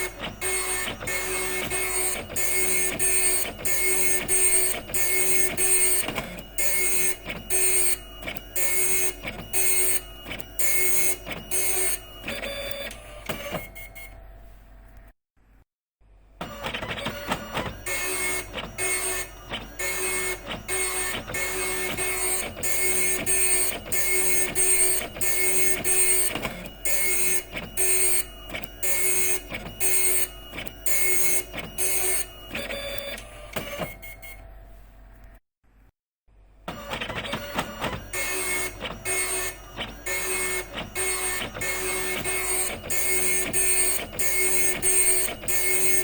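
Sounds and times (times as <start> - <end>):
dot matrix printer buzzing: 0.0 - 14.0, 16.4 - 34.3, 36.7 - 46.0.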